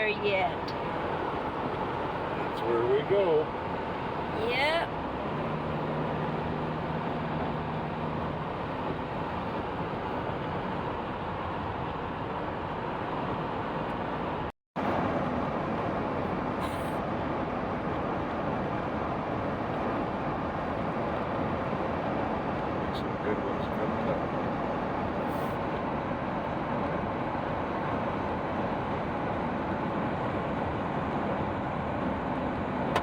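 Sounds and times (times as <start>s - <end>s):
car engine humming: 0.0s - 33.0s
tyre road noise: 0.0s - 33.0s.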